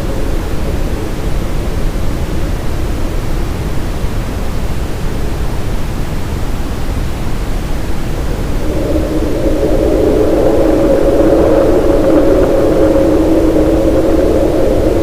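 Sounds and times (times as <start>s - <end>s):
deep rushing brown noise: 0.0s - 15.0s.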